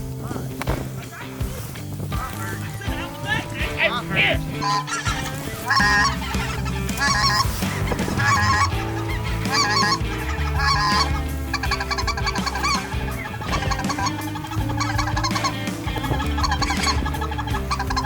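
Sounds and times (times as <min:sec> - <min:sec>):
geese calling: 0:00.0 - 0:18.0.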